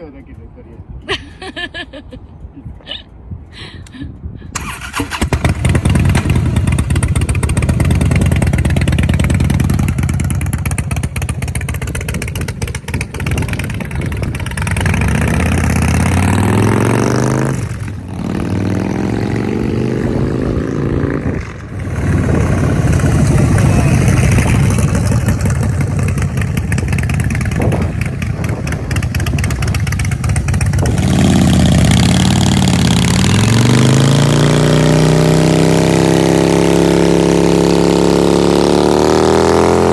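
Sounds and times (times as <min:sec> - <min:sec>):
motorcycle engine idling and revving: 0:04.6 - 0:39.9.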